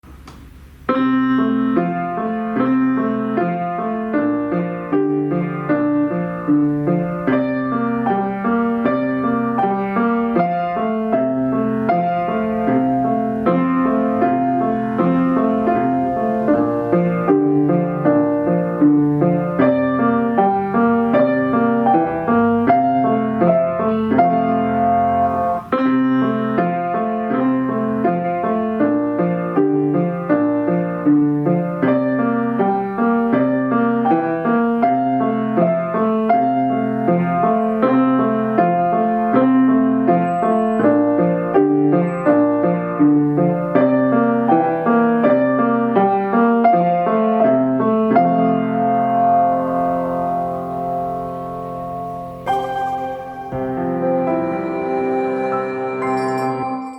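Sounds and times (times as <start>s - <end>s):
piano piece: 0.0s - 56.9s.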